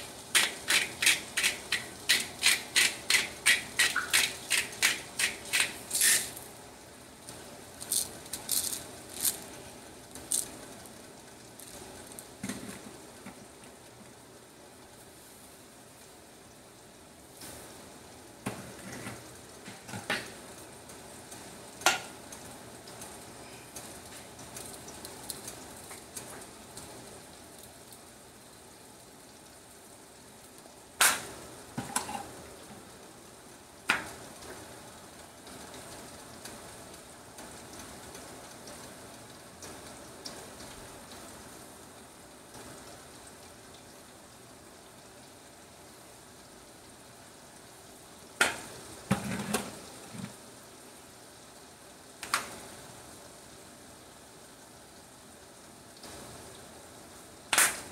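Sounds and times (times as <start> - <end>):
food sizzling in a skillet: 0.0 - 57.9.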